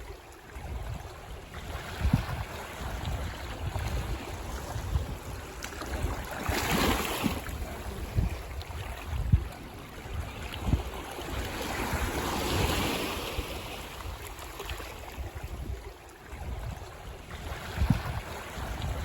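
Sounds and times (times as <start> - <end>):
ocean waves on beach: 0.0 - 19.0.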